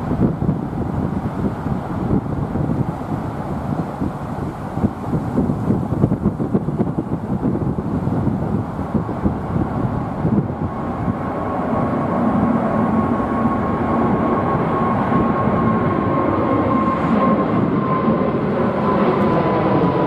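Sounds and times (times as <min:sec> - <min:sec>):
jet fan whine: 0:00.0 - 0:20.0
jet roar overhead: 0:00.0 - 0:20.0.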